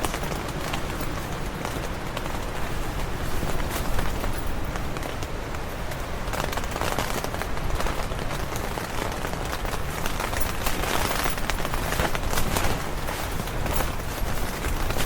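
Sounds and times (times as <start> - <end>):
low wind rumble: 0.0 - 15.0
rain tapping on tent: 0.0 - 15.0
wind flapping tent fabric: 0.0 - 15.0.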